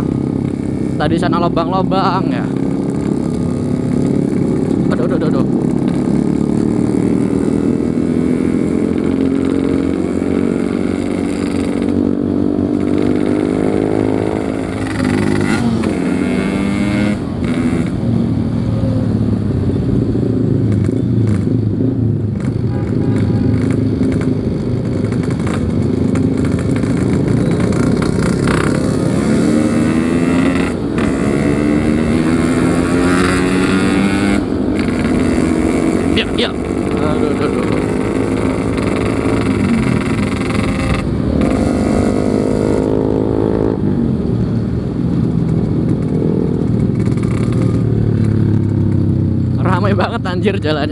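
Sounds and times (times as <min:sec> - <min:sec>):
two-stroke motorcycle engine accelerating: 0:00.0 - 0:50.9.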